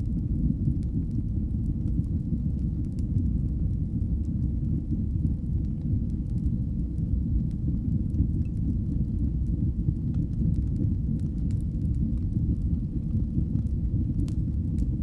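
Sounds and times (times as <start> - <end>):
fire crackles: 0.0 - 15.0
wood fire rumbling: 0.0 - 15.0.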